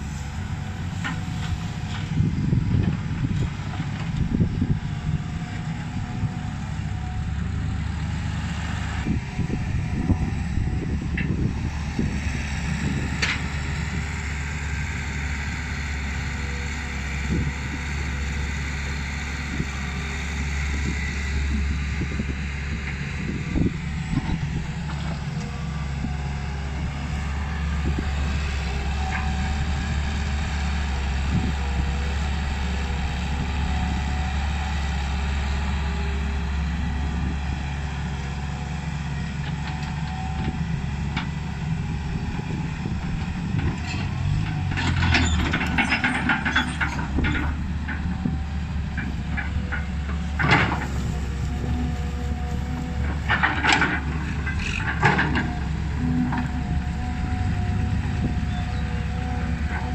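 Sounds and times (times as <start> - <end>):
dump truck driving: 0.0 - 59.9
excavator engine working: 0.0 - 59.9.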